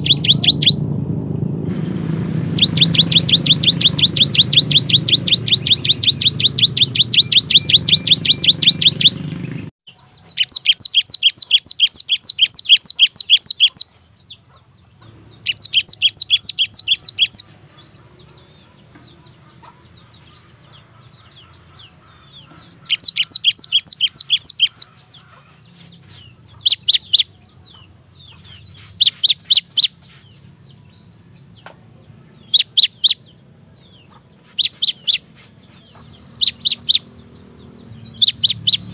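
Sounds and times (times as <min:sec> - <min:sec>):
bird singing sharp high notes: 0:00.0 - 0:01.0, 0:02.4 - 0:09.7, 0:10.3 - 0:13.9, 0:15.0 - 0:19.2, 0:20.2 - 0:27.5, 0:28.2 - 0:31.6, 0:32.2 - 0:38.9.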